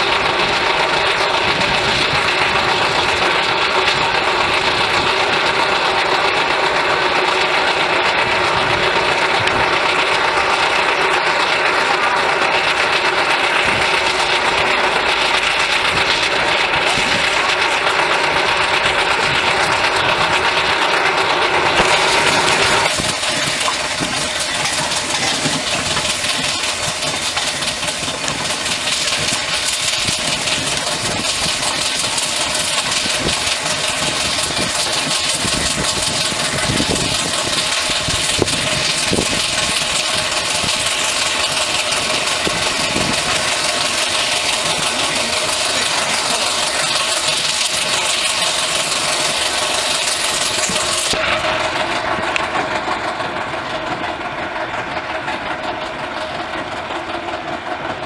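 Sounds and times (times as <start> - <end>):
road roller running with rattling: 0.0 - 58.0.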